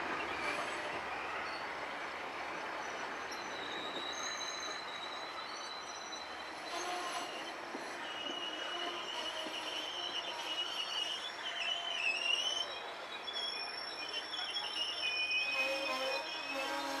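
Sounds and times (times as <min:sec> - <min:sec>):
train wheels rushing on rail: 0:00.0 - 0:17.0
high-pitched wheel squeals: 0:02.8 - 0:17.0.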